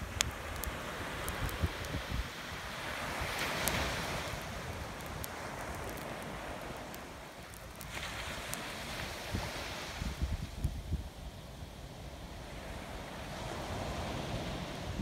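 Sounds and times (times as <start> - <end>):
ocean surf on sandy beach: 0.0 - 15.0
wind rumbling on microphone: 0.0 - 15.0.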